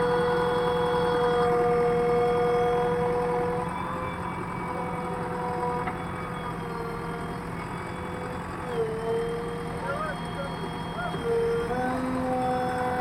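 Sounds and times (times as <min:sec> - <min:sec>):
diesel machinery whining: 0:00.0 - 0:13.0.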